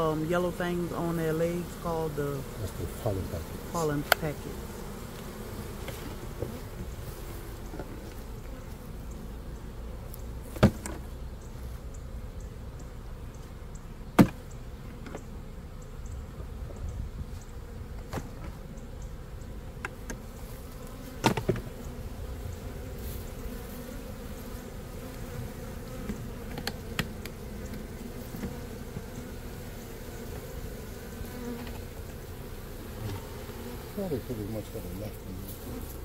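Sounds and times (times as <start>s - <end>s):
honey bees buzzing: 0.0s - 36.0s.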